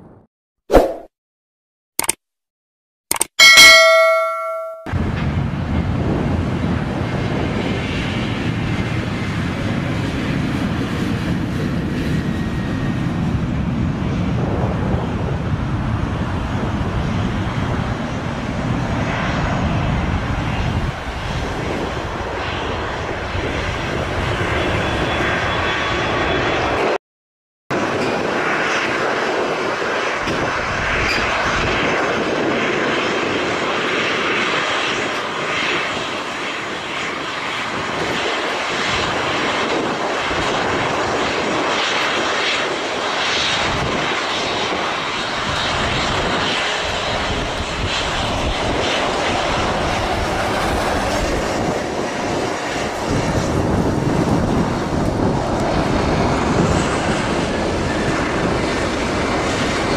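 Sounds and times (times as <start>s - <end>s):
wind buffeting microphone: 4.9s - 26.9s, 27.8s - 59.9s
jet engines roaring: 4.9s - 27.0s, 27.7s - 59.9s.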